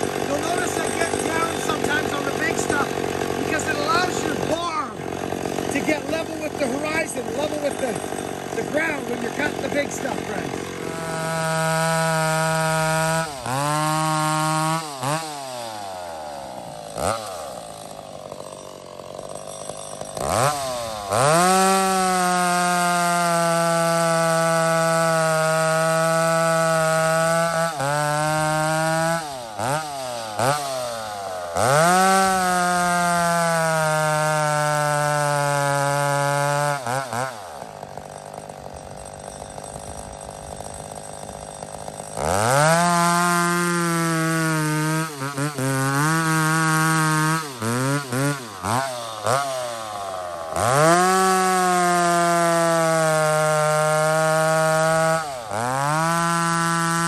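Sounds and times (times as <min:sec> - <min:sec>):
chainsaw cutting logs: 0:00.0 - 0:57.0
chainsaw idling: 0:00.0 - 0:57.0.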